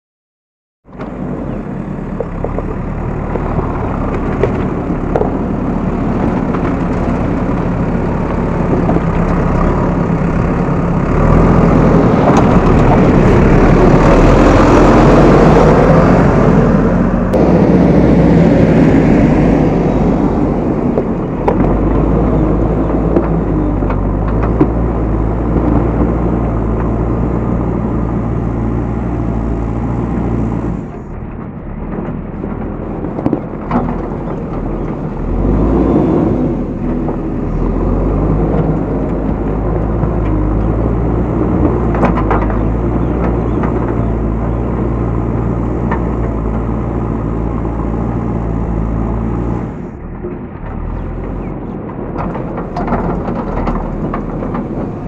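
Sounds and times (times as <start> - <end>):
backhoe diesel engine running: 0.9 - 55.0.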